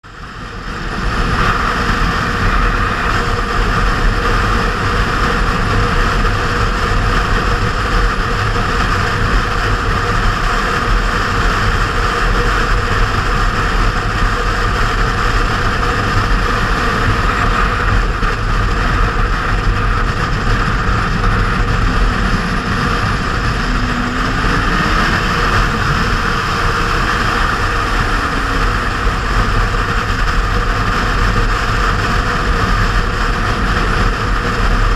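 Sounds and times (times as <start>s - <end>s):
motorcycle engine running: 0.0s - 34.9s
wind rush over camera: 0.1s - 34.9s.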